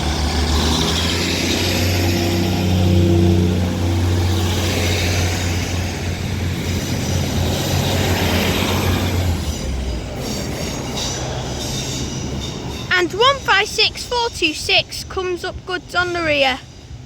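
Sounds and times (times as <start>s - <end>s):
diesel train engines: 0.0s - 17.0s
wheels rumbling on rails: 0.0s - 17.0s.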